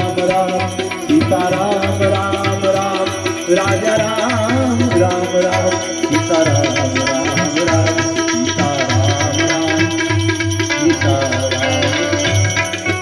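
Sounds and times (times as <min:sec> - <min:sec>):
sustained melodic accompaniment: 0:00.0 - 0:13.0
tabla and hand percussion beat: 0:00.0 - 0:13.0.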